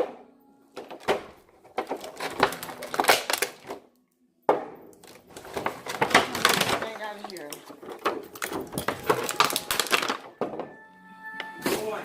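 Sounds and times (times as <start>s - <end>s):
objects knocking and clattering: 0.0s - 3.8s, 4.5s - 10.8s.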